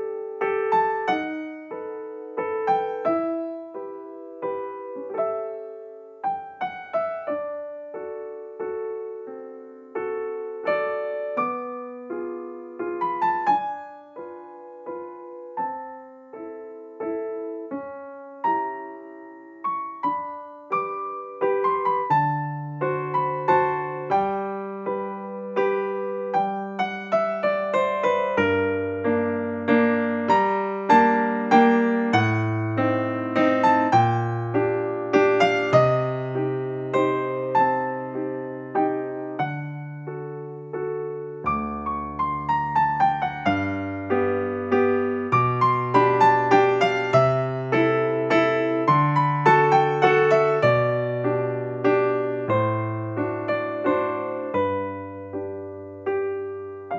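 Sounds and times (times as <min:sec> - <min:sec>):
gentle piano tune: 0:00.0 - 0:56.9.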